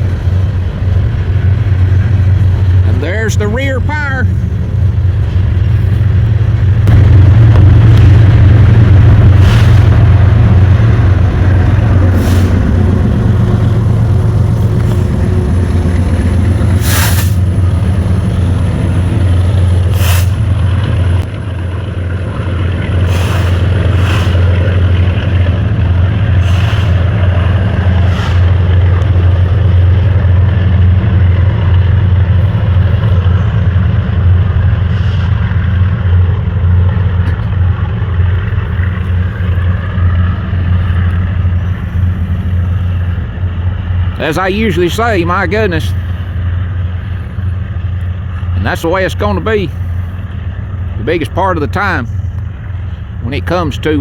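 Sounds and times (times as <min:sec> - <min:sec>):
train wheels rolling on rail: 0:00.0 - 0:07.0, 0:08.6 - 0:54.0
diesel locomotive engine drone: 0:00.0 - 0:54.0.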